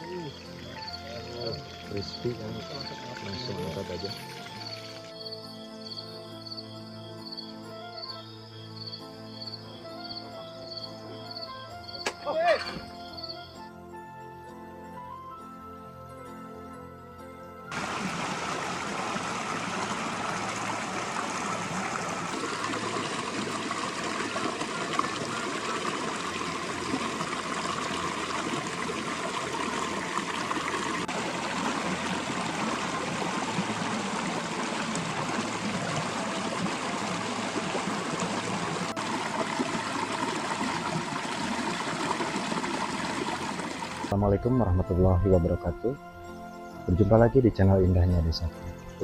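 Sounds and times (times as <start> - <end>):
stream water flowing: 0.0 - 8.0, 17.7 - 49.0.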